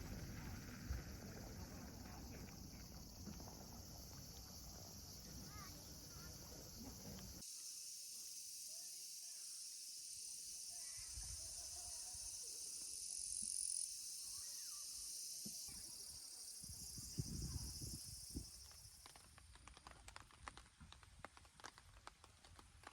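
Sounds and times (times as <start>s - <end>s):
insects chirring: 0.0s - 19.3s.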